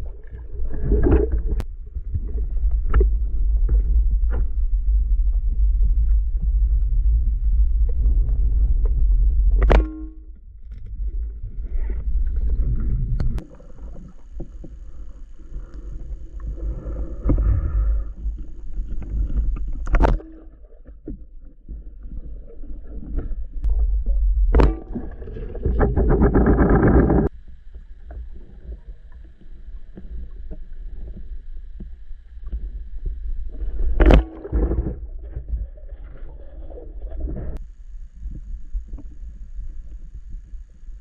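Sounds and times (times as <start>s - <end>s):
underwater rumble of water: 0.0s - 41.0s.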